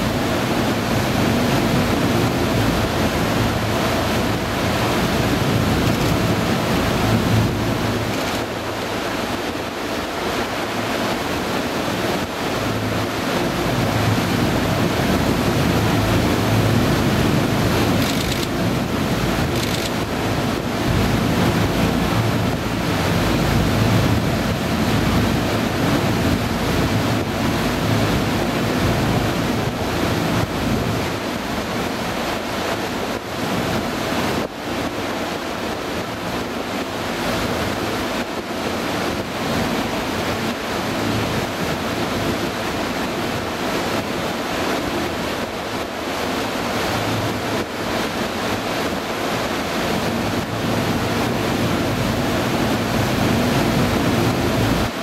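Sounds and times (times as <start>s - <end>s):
boat engine humming: 0.0s - 55.0s
water washing past boat: 0.0s - 55.0s
wind gusting on microphone: 0.0s - 55.0s.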